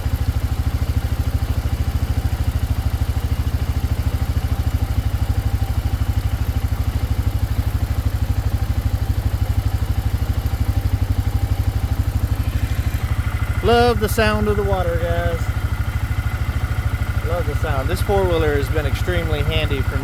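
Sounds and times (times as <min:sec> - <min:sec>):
atv engine idling: 0:00.0 - 0:20.0.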